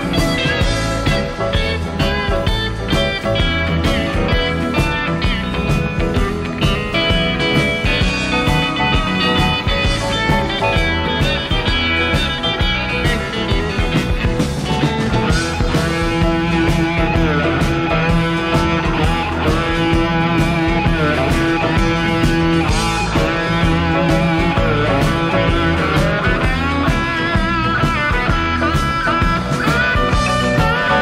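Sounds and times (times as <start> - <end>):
bass guitar: 0.0 - 31.0
drums: 0.0 - 31.0
lead electric guitar: 0.0 - 31.0.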